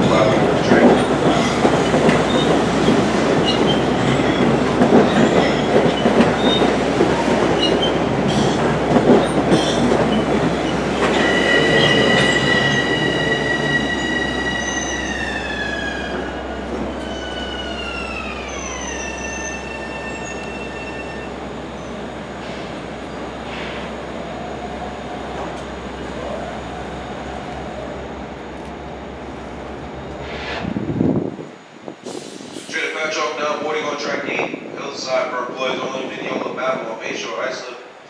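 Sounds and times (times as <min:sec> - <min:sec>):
train wheels rumbling on rail: 0:00.0 - 0:37.3.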